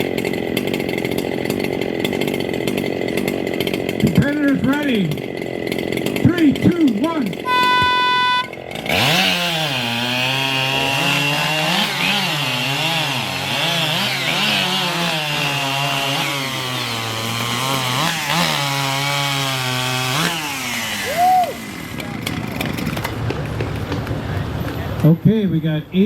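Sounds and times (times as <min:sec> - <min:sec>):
chainsaw cutting through log: 0:00.0 - 0:23.4.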